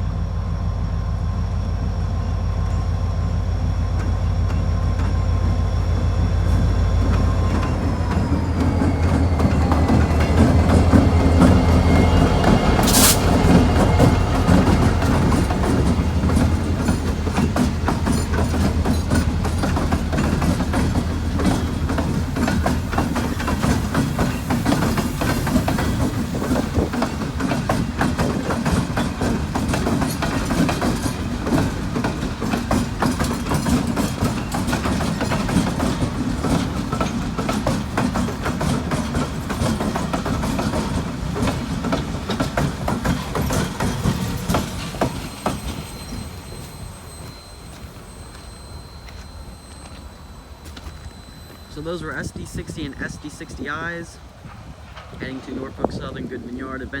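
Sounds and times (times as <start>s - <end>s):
low locomotive engine drone: 0.0s - 57.0s
train wheels clicking on rail joints: 1.6s - 57.0s.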